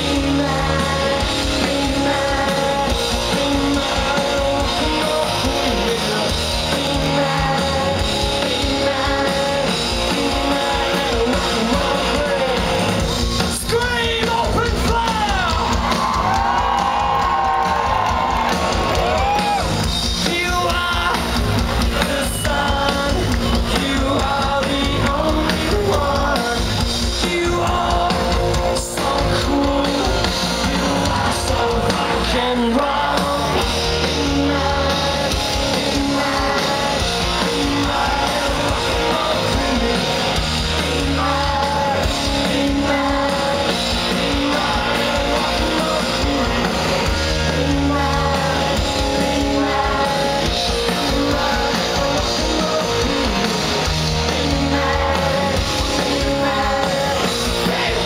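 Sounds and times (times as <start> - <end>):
person singing: 0.0 - 15.6, 20.2 - 58.0
distorted electric guitar: 0.0 - 58.0
live rock band: 0.0 - 58.0.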